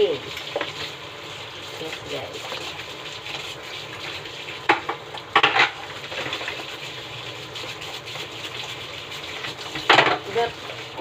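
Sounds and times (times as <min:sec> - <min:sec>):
chicken sizzling in a pan: 0:00.0 - 0:11.0
utensil scraping a pan: 0:00.0 - 0:11.0.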